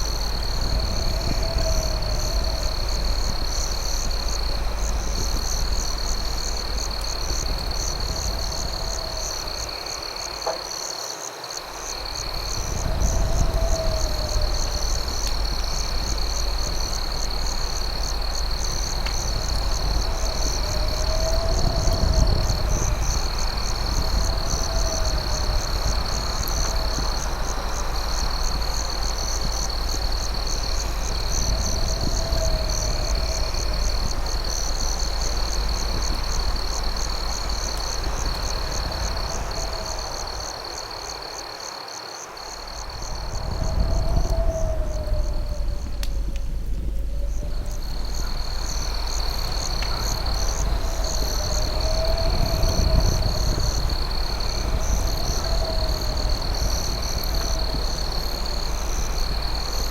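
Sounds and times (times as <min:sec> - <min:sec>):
low rumbling noise: 0:00.0 - 0:10.6, 0:11.8 - 0:41.1, 0:42.7 - 0:59.9
crickets trilling: 0:00.0 - 0:59.9
drawn-out insect call: 0:00.0 - 0:59.9.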